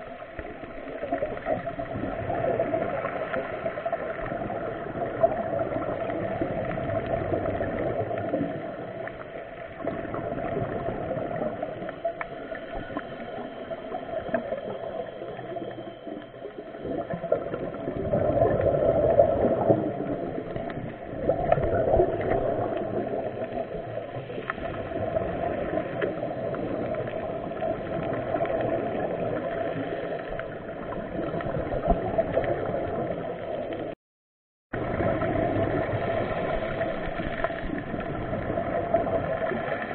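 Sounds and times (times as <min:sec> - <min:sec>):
muffled rushing water gurgling: 0:00.0 - 0:34.0, 0:34.7 - 0:39.9.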